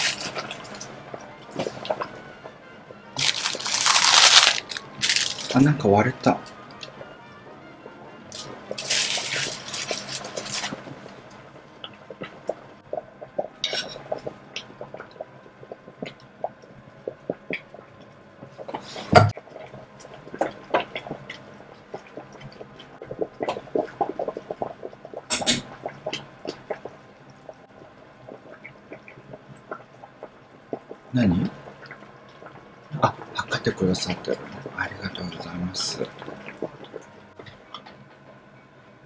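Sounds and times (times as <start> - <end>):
water boiling and bubbling: 0.0 - 39.0.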